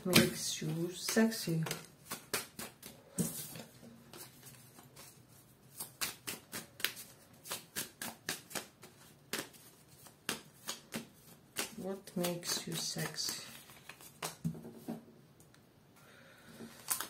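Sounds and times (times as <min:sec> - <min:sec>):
cards being shuffled: 0:00.1 - 0:15.0, 0:16.8 - 0:17.0.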